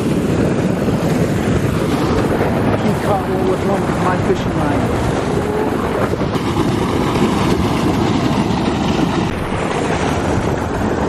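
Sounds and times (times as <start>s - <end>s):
water rushing and churning: 0.0s - 11.0s
wind buffeting microphone: 0.0s - 11.0s.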